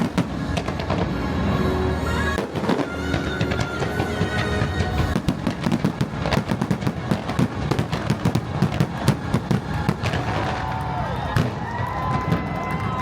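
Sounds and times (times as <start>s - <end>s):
fireworks bangs and crackles: 0.0s - 1.5s, 2.2s - 13.0s.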